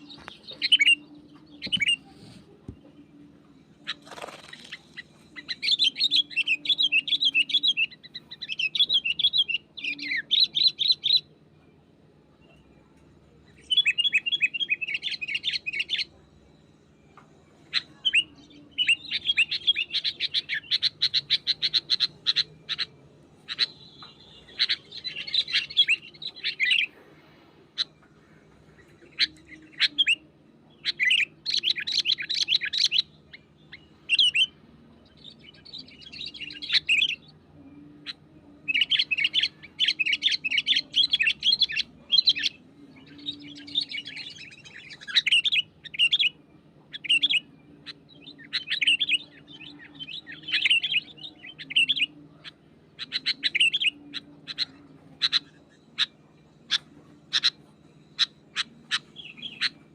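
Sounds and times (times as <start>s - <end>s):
bird singing chirpy phrases: 0.0s - 27.0s, 27.7s - 59.9s
faint steady low hum: 0.0s - 59.9s.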